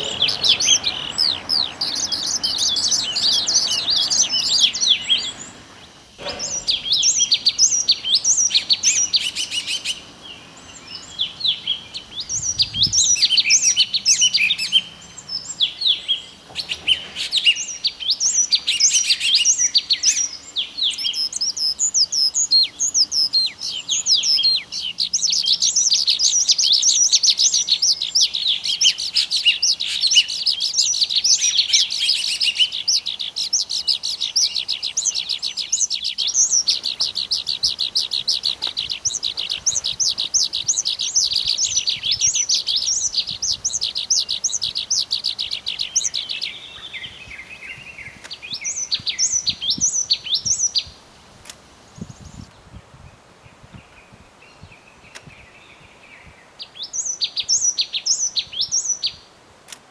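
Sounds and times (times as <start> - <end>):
small birds chirping: 0.0 - 59.4.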